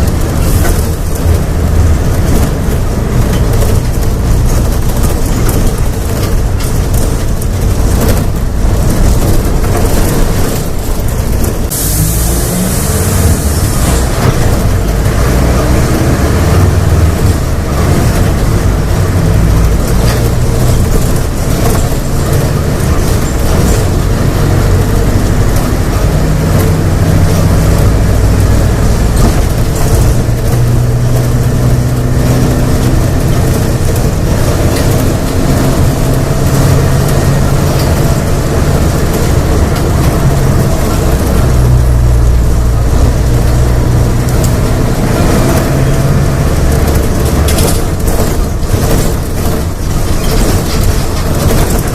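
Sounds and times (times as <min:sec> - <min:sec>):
diesel bus engine revving: 0:00.0 - 0:51.9.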